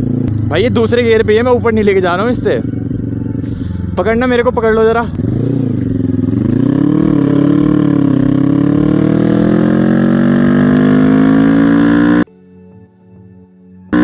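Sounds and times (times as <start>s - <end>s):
motorcycle engine at full throttle: 0.0s - 12.3s.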